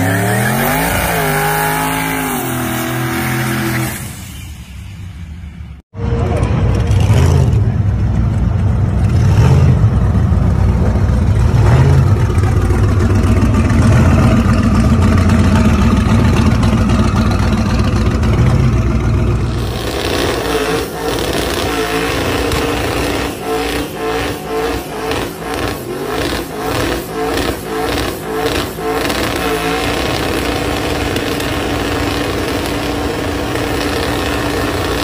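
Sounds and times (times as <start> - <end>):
tyres spinning in a burnout: 0.0 - 4.2, 11.2 - 35.0
pickup engine running loudly: 6.0 - 35.0.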